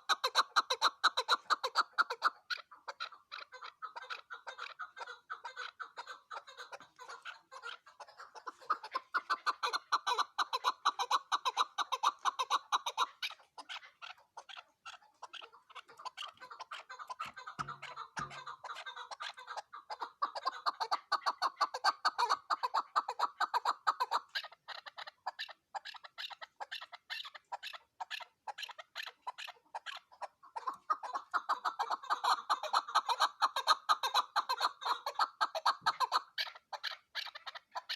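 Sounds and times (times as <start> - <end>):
partridge clucking calls: 0.0 - 37.9.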